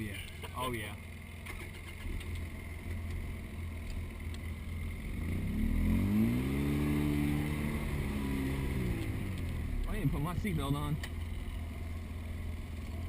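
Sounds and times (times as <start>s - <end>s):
utility vehicle engine revving: 1.4s - 13.0s.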